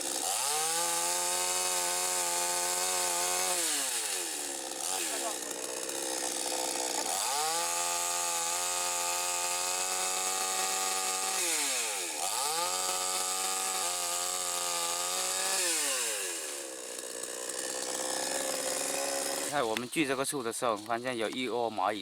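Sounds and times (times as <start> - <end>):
chainsaw sawing into tree: 0.0 - 22.0.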